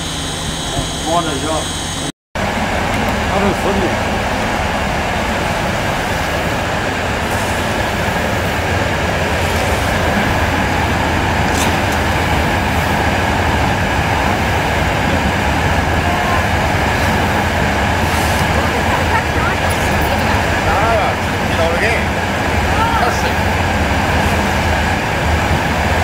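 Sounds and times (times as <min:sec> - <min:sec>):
furnace machinery drone: 0:00.0 - 0:26.0.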